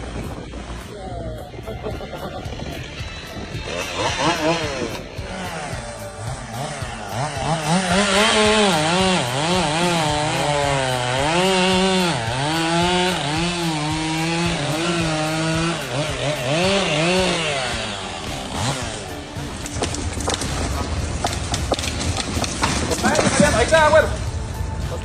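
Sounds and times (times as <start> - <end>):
chainsaw running: 0.0 - 24.8.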